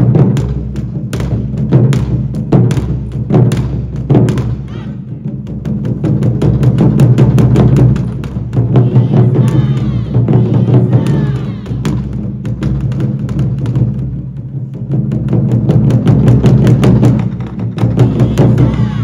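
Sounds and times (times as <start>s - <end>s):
taiko drums beating: 0.0s - 19.0s.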